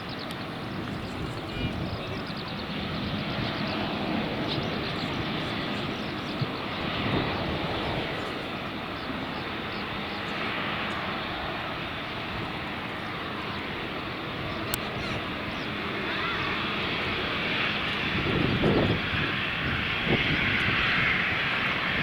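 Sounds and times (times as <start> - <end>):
airliner engines running: 0.0 - 22.0
wind buffeting microphone: 0.0 - 22.0.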